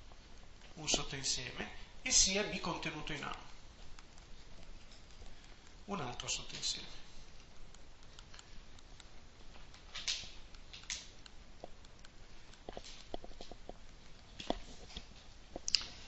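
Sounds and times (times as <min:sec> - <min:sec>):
stylus writing on tablet screen: 0:00.0 - 0:15.6.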